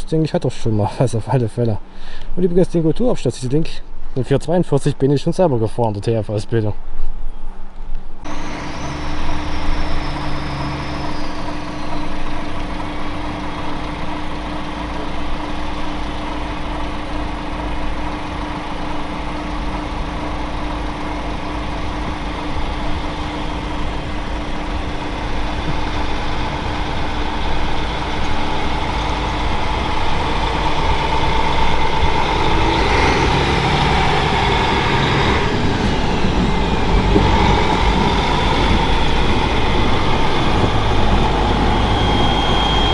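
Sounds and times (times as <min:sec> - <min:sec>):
train diesel engine hum: 0:00.0 - 0:07.2, 0:08.2 - 0:42.9
higher whining tones: 0:07.3 - 0:42.9.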